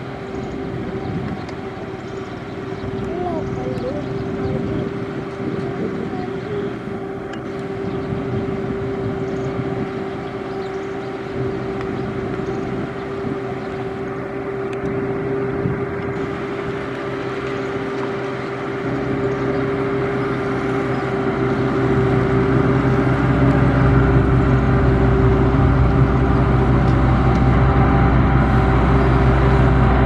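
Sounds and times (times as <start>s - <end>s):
constant humming tone: 0.0s - 30.0s
construction machinery engine: 0.0s - 30.0s.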